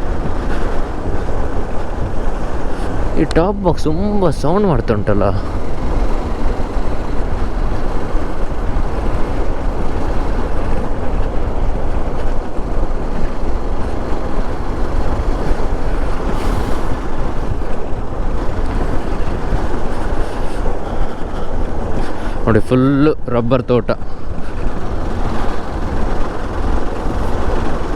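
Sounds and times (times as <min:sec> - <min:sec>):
wind rush and road noise: 0:00.0 - 0:27.9.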